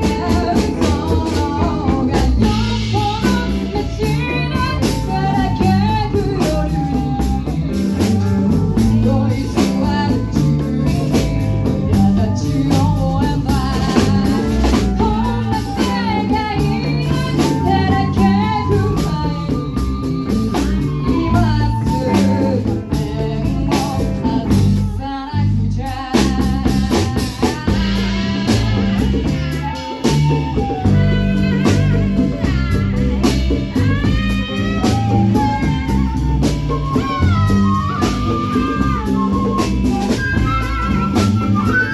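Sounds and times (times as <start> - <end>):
live band playing: 0.0 - 41.9.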